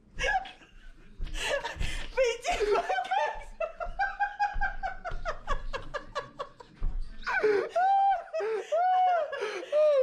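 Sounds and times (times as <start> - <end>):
hearty laughter: 1.3 - 10.0.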